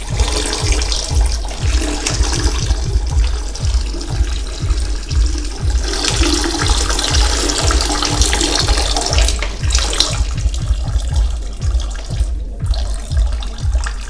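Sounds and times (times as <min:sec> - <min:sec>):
dance music with bass beat: 0:00.0 - 0:14.0.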